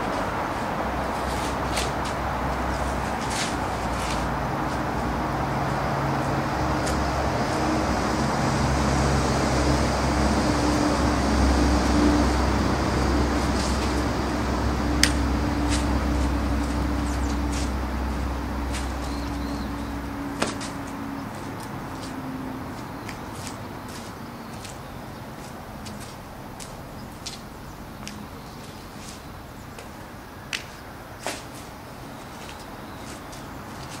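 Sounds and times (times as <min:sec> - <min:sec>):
road traffic noise: 0:00.0 - 0:34.0
vehicle engine humming: 0:00.0 - 0:34.0.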